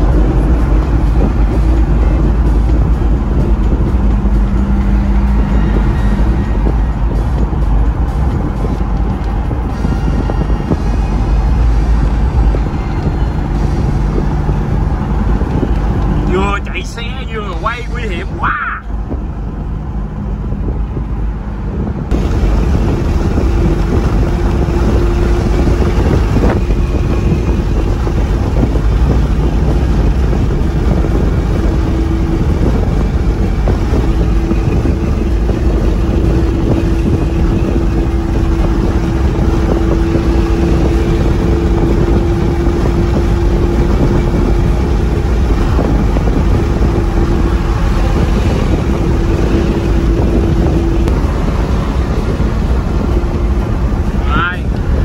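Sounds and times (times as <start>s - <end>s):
car engine drone in cabin: 0.0s - 55.0s
road and wind noise: 0.0s - 55.0s.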